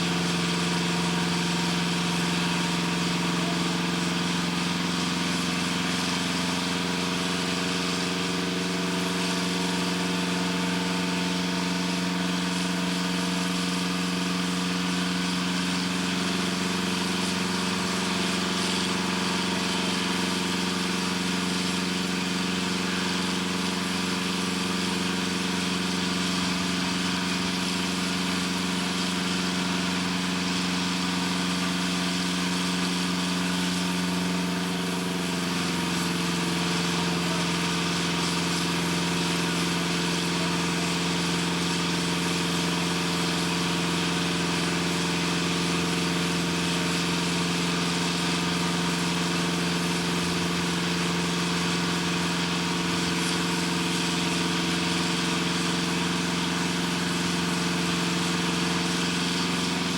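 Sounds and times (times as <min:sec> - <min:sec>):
machinery droning: 0:00.0 - 0:59.9.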